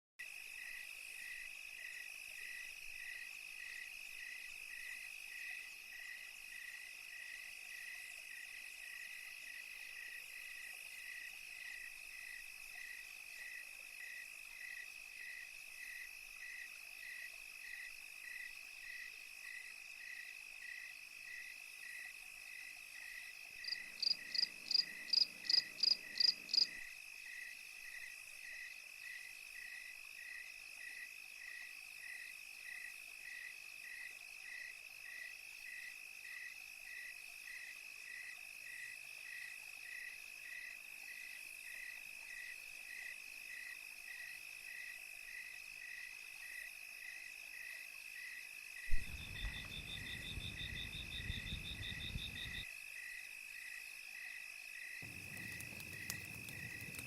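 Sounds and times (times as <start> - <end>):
crickets chirping: 0.2 - 57.0.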